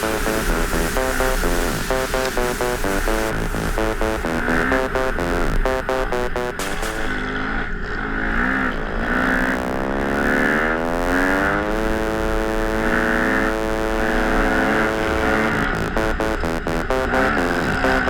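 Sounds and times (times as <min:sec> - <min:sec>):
dirt bike engine accelerating: 0:00.0 - 0:18.0.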